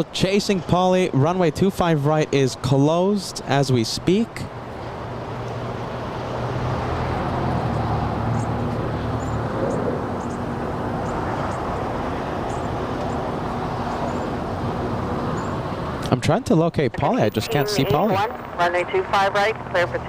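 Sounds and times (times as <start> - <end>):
engine and traffic rumble: 0.0 - 20.0.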